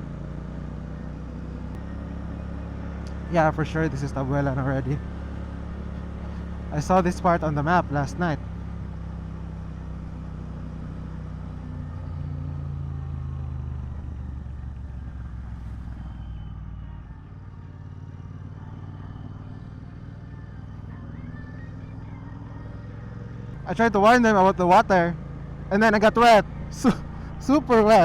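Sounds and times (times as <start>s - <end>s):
motorcycle engine cruising: 0.0s - 28.0s.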